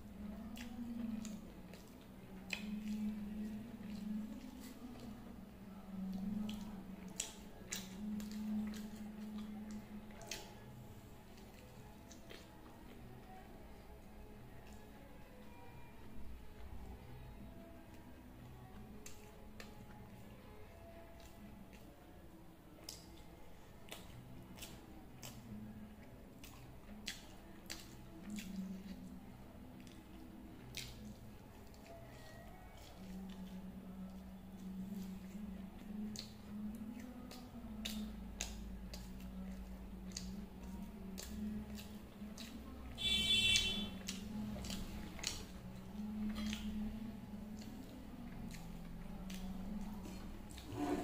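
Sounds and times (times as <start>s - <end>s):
wet chewing and mouth smacks: 0.1s - 15.9s, 17.8s - 50.7s.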